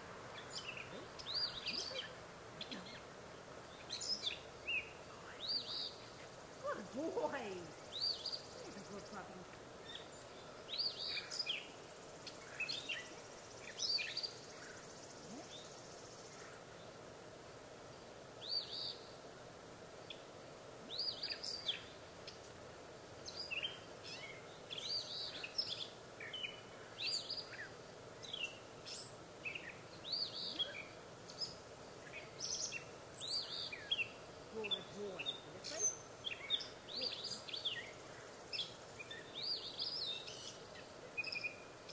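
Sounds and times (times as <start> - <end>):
faint background noise: 0.0 - 41.9
songbirds chirping: 0.0 - 41.9.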